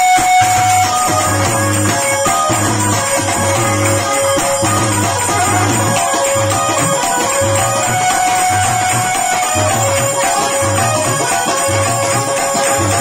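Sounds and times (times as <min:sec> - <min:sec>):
hand cymbals jingling: 0:00.0 - 0:13.0
held melodic drone: 0:00.0 - 0:13.0.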